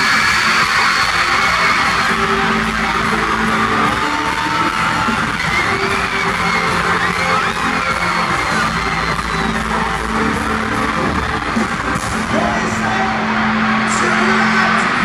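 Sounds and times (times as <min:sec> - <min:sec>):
amplified pop music: 0:00.0 - 0:15.0
crowd screaming: 0:00.0 - 0:15.0.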